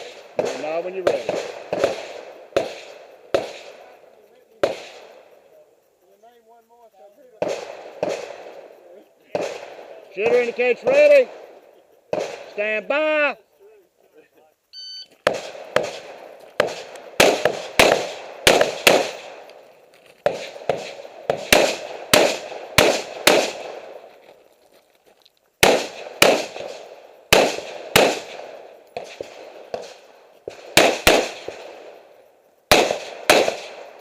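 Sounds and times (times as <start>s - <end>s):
rifle gunshots with echo: 0.0s - 5.4s, 7.3s - 13.3s, 15.2s - 24.1s, 25.6s - 34.0s.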